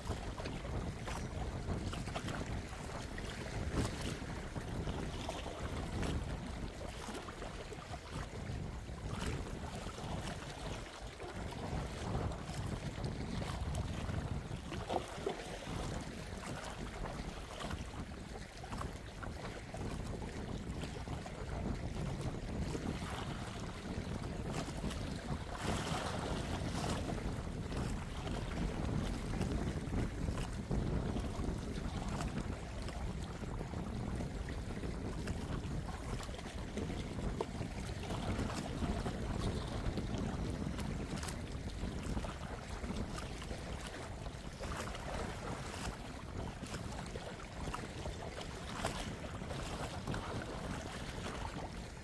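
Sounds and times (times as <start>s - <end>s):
sea water lapping: 0.0s - 52.0s
wind rumble on microphone: 0.0s - 52.0s.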